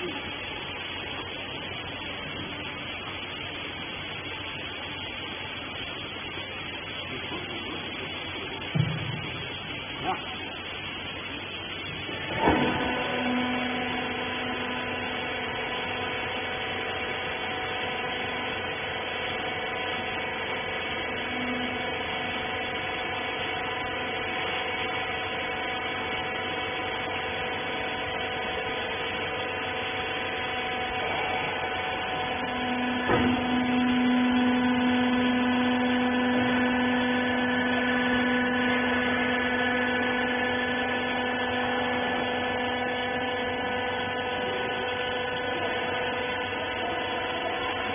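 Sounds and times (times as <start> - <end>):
hydraulic pump motor humming: 0.0 - 47.9.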